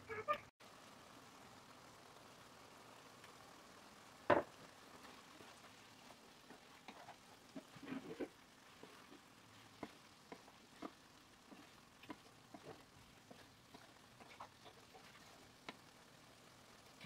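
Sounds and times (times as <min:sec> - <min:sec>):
spatula stirring in frying pan: 0:02.6 - 0:17.0.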